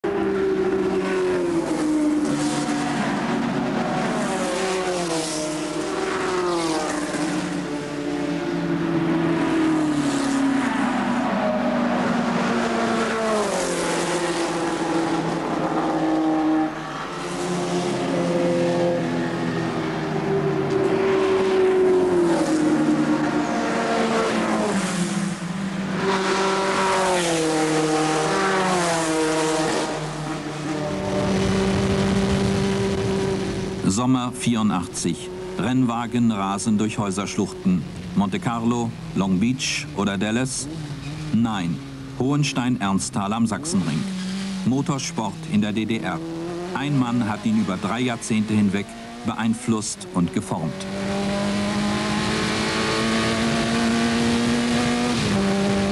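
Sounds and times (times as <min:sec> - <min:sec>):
racing car engines passing: 0:00.0 - 0:55.9.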